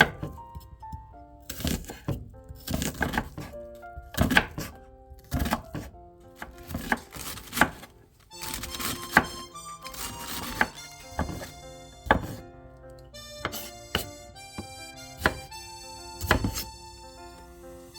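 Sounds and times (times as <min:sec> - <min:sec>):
knife chopping on cutting board: 0:00.0 - 0:12.4, 0:13.2 - 0:15.6, 0:16.2 - 0:16.8
background music: 0:00.0 - 0:17.9.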